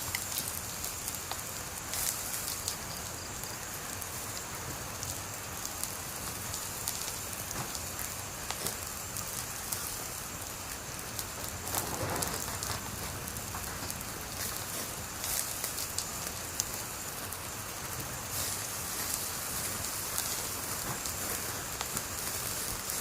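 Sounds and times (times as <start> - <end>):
wood fire crackling and hissing: 0.0 - 23.0.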